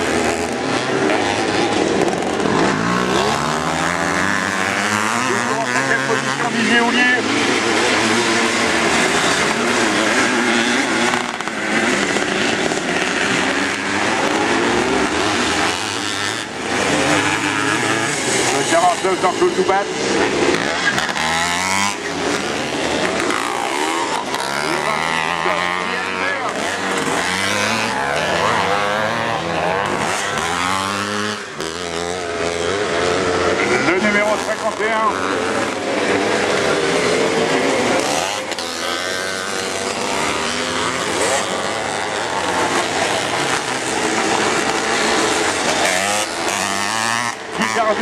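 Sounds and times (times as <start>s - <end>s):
motocross bike engines revving: 0.0s - 48.0s.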